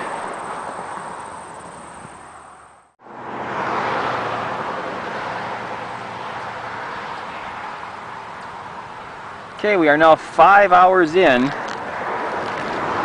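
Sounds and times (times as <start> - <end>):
vehicle passing on highway: 0.0 - 13.0.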